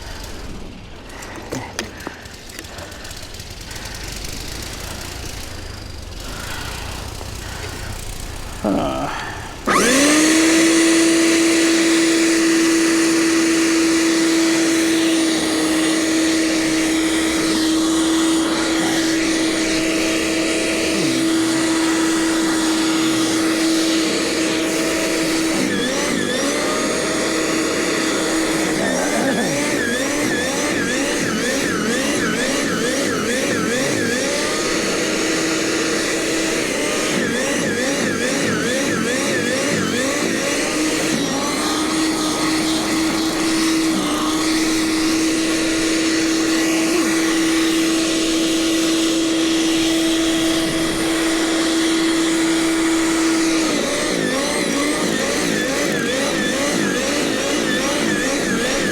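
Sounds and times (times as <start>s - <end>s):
snowblower engine running: 0.0s - 58.9s.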